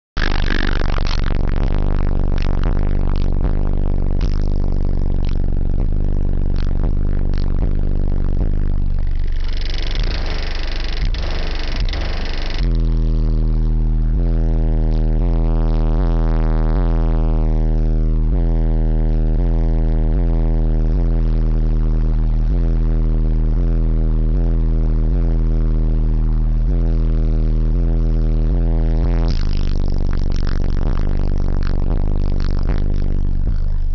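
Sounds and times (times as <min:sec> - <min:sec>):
bass-heavy music from subwoofers: 0:00.0 - 0:33.9.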